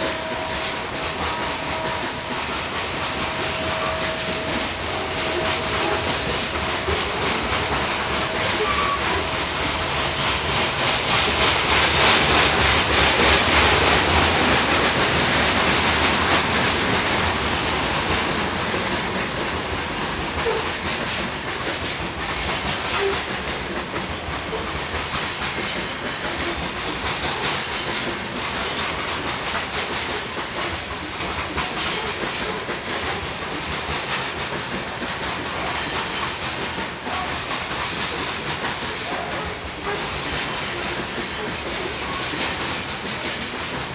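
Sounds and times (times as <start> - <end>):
freight train cars rolling: 0.0 - 43.9
wheels clacking over rail joints: 0.0 - 43.9.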